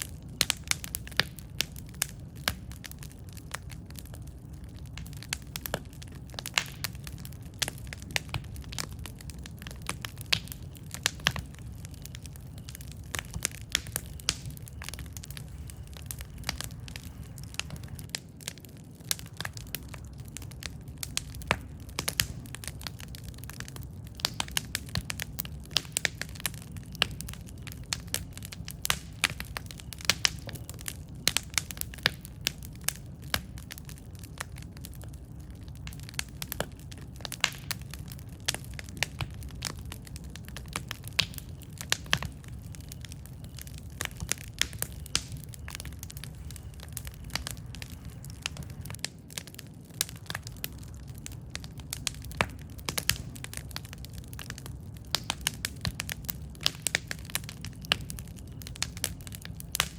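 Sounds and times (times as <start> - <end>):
campfire burning and crackling: 0.0 - 59.9.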